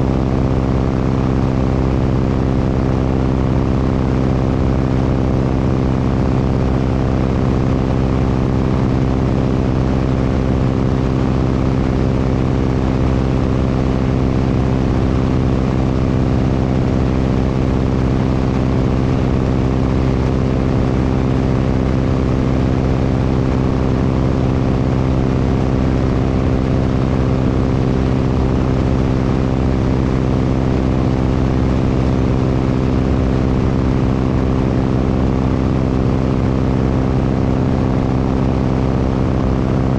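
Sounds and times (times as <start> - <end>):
propeller airplane engine: 0.0 - 39.9.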